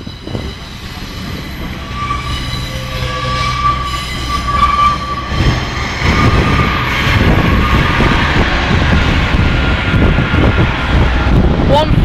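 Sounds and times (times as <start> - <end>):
train wheels rumbling over rails: 0.0 - 12.0.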